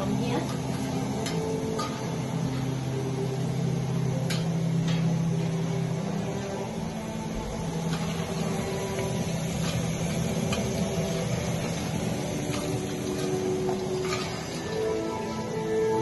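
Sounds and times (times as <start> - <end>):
chips sizzling in hot oil: 0.0 - 16.0
steady low hum: 0.0 - 16.0.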